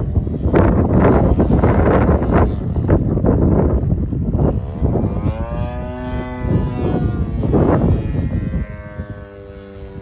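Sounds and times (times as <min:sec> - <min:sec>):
model plane engine droning: 0:00.0 - 0:10.0
wind buffeting microphone: 0:00.0 - 0:10.0.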